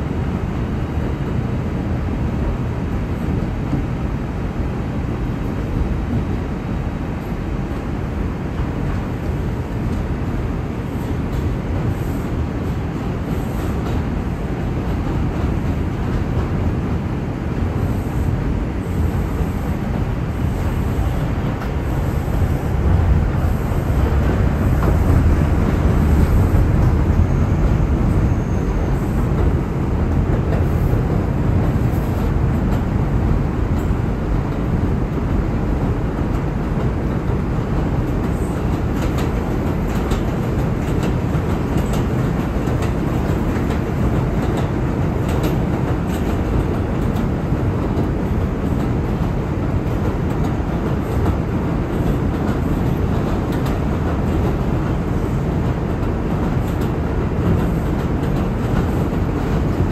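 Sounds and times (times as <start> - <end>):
subway car wheels rumbling: 0.0 - 59.9.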